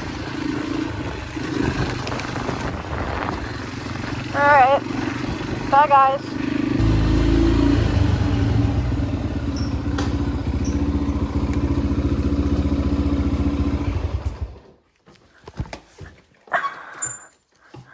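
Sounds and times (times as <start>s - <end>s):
dirt bike engine running: 0.0s - 14.7s.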